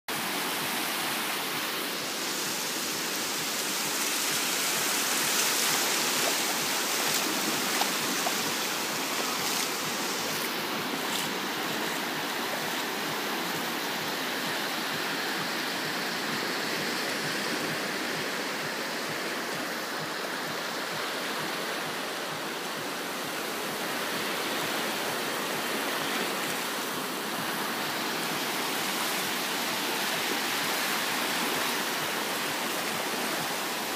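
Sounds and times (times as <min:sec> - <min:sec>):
sea water washing on shore: 0:00.1 - 0:33.9.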